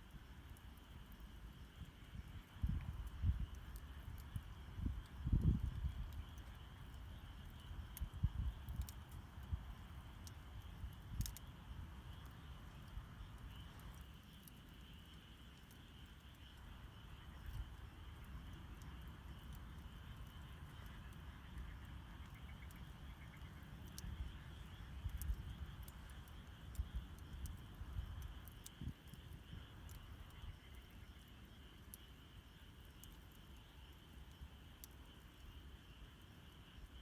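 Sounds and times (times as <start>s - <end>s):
campfire crackling and popping: 0.0s - 37.0s
night insects chorus: 0.0s - 37.0s.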